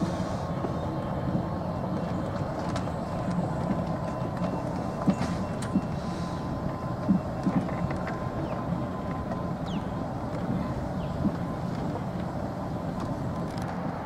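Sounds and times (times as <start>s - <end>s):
golf cart driving: 0.0s - 14.0s.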